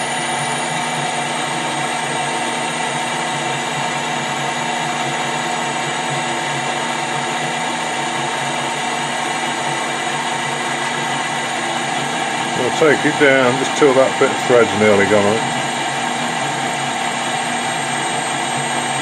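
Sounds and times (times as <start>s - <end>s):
metal lathe humming: 0.0s - 19.0s.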